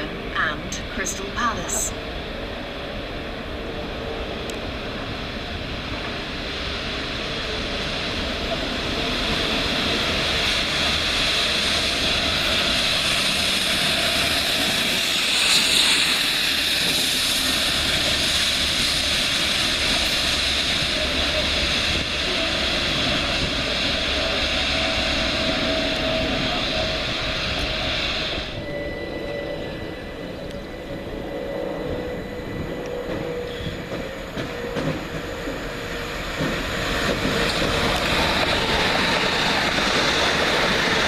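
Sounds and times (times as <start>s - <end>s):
electric train running: 0.0s - 41.0s.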